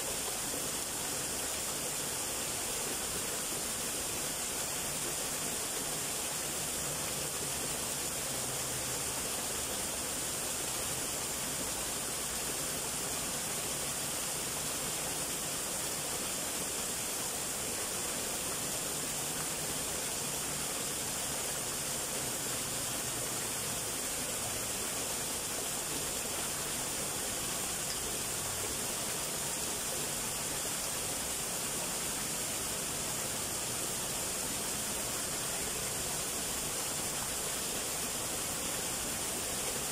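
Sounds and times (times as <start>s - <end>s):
waterfall splashing into pool: 0.0s - 39.9s.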